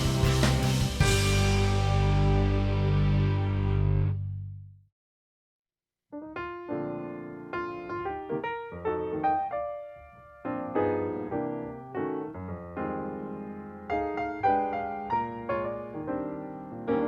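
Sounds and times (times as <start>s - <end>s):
piano music: 0.0s - 4.2s, 6.2s - 17.0s.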